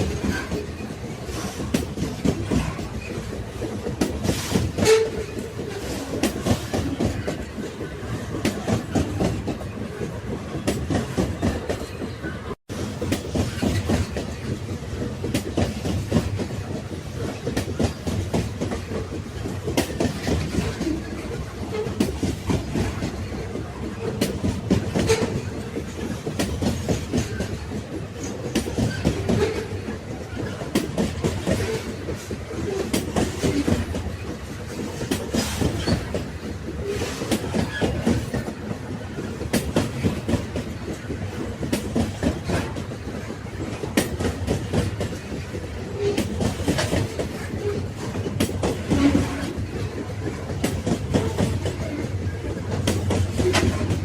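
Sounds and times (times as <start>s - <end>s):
wheels clacking over rail joints: 0.0s - 54.0s
wheels rumbling on rail: 0.0s - 54.0s.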